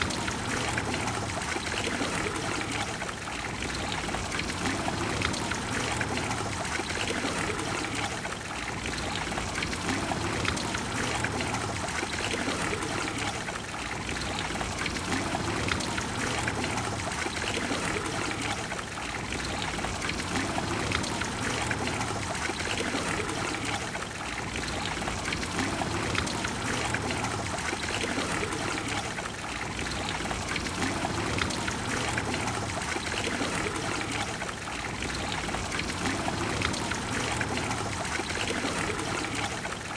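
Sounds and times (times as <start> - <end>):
fountain water cascading: 0.0 - 39.9.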